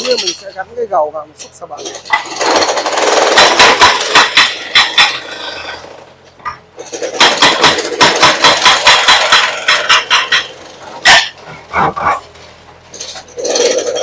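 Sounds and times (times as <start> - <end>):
hydraulic breaker hammering concrete: 1.8 - 12.2, 13.0 - 14.0.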